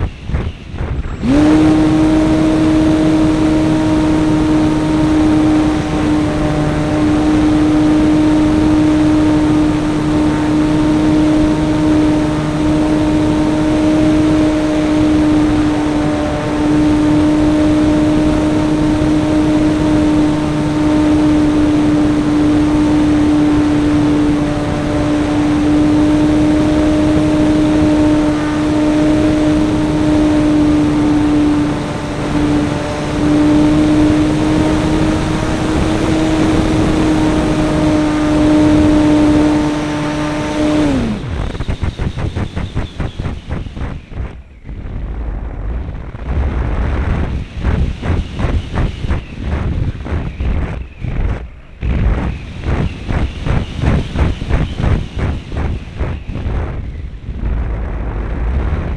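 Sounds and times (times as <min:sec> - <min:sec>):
model airplane motor whine: 0:00.0 - 0:49.3
rushing air: 0:00.0 - 0:58.9.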